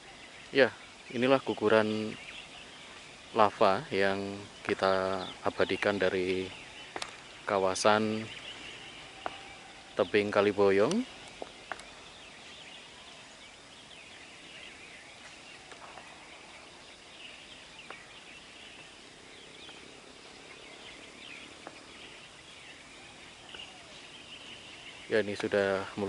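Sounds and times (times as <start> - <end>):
bird chirps: 0.0 - 26.0
steady background hiss: 0.0 - 26.0.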